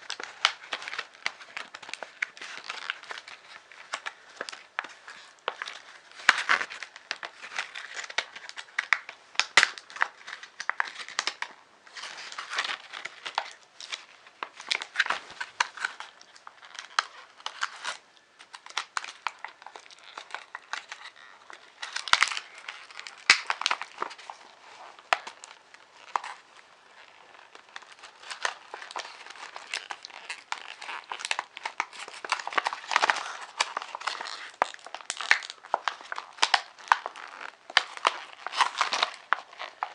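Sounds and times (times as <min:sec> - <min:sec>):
packaging crinkling and crackling: 0:00.0 - 0:39.9.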